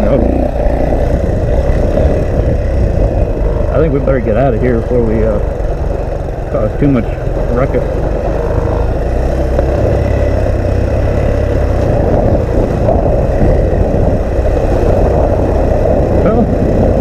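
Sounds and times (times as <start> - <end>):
engine pulling hard under load: 0.0 - 17.0
faint engine whine: 0.0 - 17.0
wind buffeting microphone: 0.0 - 17.0.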